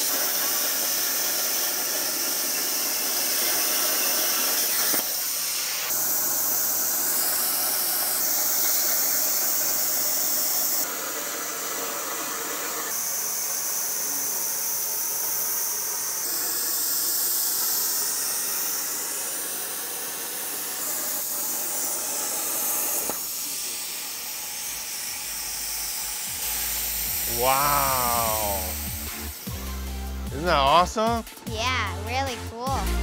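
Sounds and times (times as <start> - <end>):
plasma torch hissing: 0.0 - 10.9, 12.6 - 31.1.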